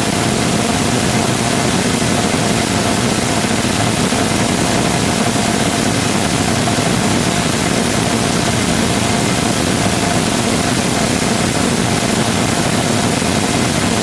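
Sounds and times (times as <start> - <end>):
rocket engine roaring: 0.0 - 14.0.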